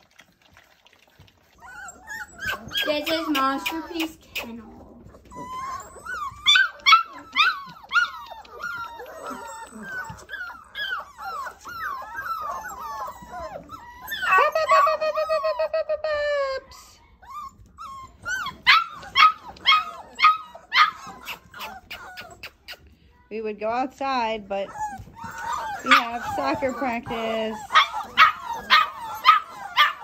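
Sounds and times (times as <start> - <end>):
puppies whining and yelping: 0.0 - 30.0
puppy howling: 1.6 - 15.7, 17.3 - 22.5, 24.7 - 30.0.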